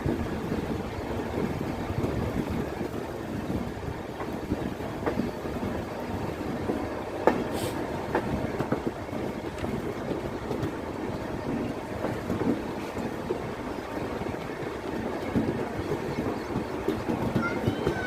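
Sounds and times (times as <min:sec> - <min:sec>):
train rolling rumble: 0:00.0 - 0:18.0
wheels clicking over rail joints: 0:00.0 - 0:18.0.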